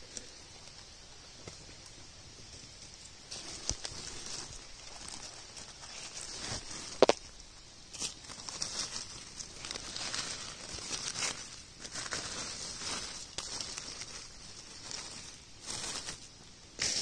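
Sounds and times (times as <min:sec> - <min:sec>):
dry leaves crackling and rustling: 0:00.0 - 0:17.0.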